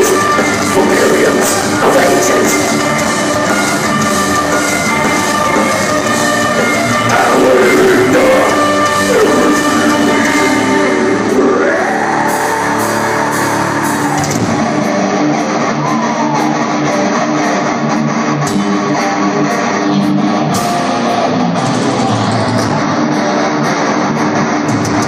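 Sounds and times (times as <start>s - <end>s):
live metal band playing: 0.0s - 25.0s.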